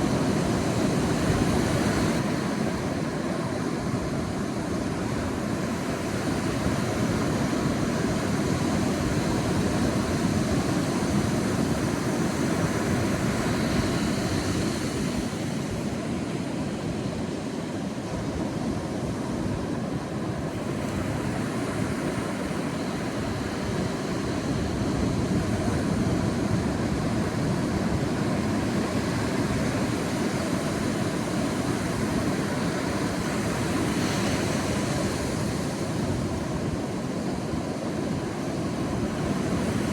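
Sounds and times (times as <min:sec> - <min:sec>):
sea surf washing onto beach: 0:00.0 - 0:39.9.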